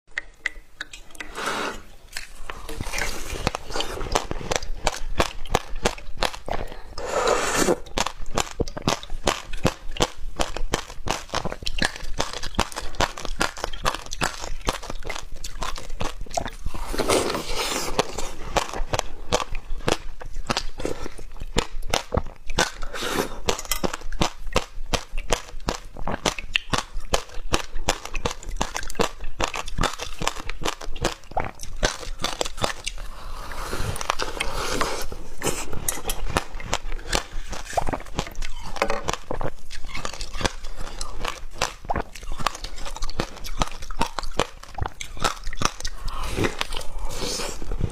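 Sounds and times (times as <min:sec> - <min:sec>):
chewing crunchy ice: 0:00.4 - 0:47.9.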